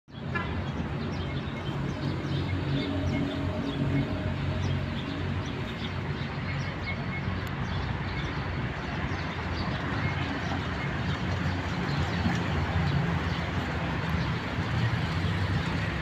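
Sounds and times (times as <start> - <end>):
small birds chirping: 0.1 - 15.9
distant traffic rumble: 0.1 - 16.0.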